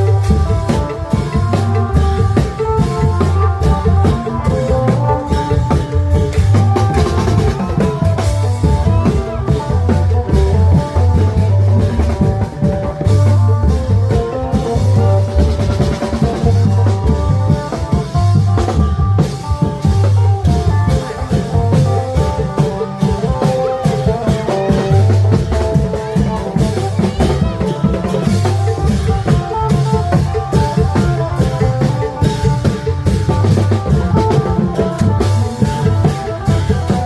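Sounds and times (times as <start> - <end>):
drums and percussion beat: 0.0 - 37.0.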